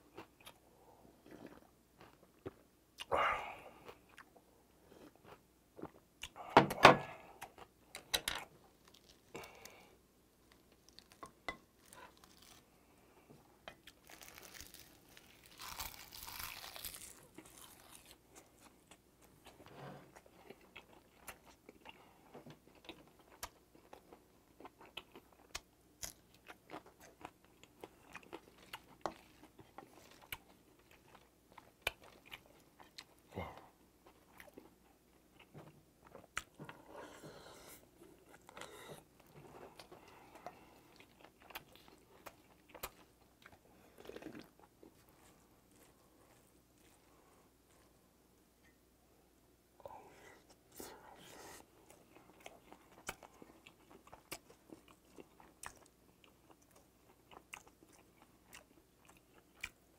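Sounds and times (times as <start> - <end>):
person chewing food: 1.2 - 3.1, 3.7 - 12.8, 13.6 - 48.0, 50.0 - 59.9.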